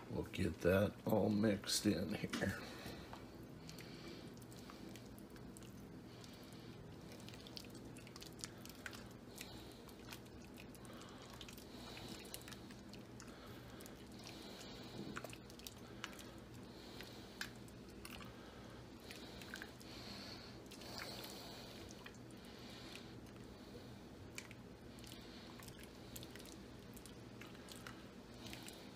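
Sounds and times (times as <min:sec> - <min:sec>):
thick chili squelching: 0:02.4 - 0:28.9.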